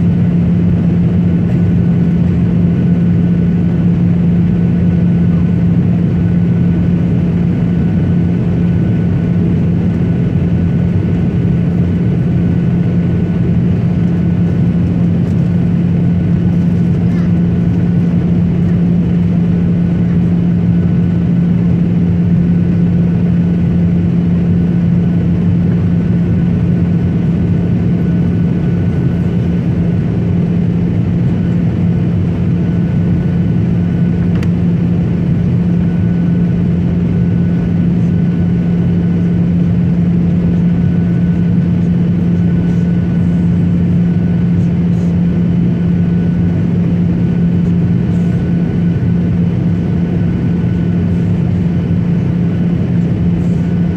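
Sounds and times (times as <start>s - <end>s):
airliner cabin engine drone: 0.0s - 53.9s
high steady whine: 0.0s - 53.9s.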